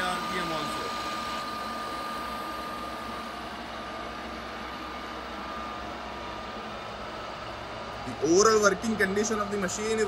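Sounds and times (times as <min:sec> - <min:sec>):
milling machine spindle humming: 0:00.0 - 0:10.0.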